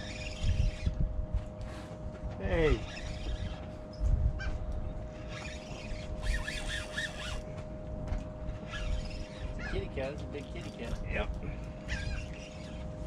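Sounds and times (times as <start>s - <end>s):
steady thin hum: 0.0s - 13.0s
wind buffeting microphone: 0.0s - 13.0s.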